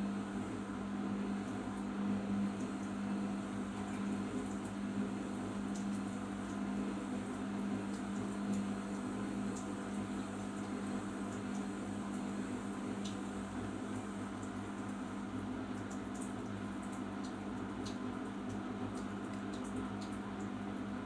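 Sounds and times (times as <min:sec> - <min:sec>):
washing machine humming and churning: 0:00.0 - 0:21.0.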